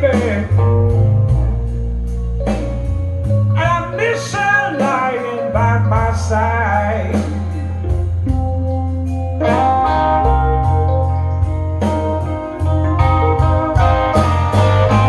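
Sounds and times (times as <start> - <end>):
bass line: 0.0 - 15.0
electric guitar: 0.0 - 15.0
person singing blues: 0.0 - 15.0.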